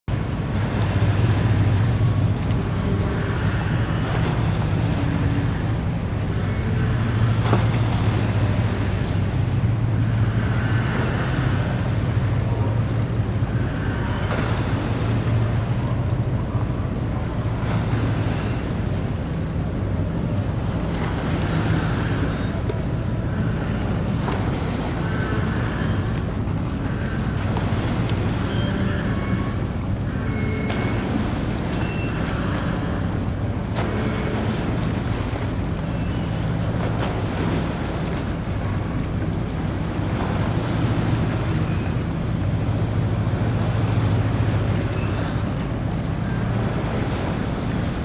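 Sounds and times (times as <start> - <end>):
boat engine hum: 0.0 - 48.0.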